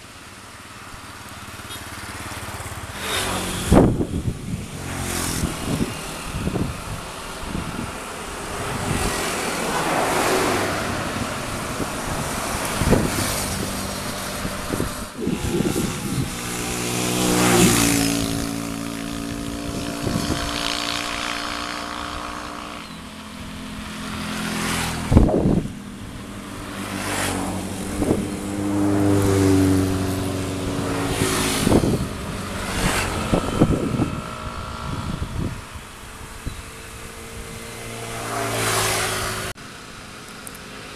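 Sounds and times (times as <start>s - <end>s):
combine harvester engine revving: 0.0s - 40.9s.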